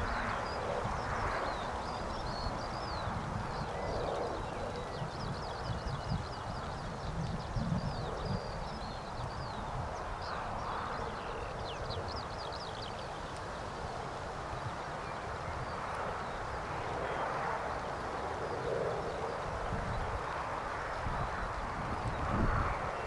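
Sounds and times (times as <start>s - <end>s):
small birds chirping: 0.0s - 23.0s
wind buffeting microphone: 0.0s - 23.0s.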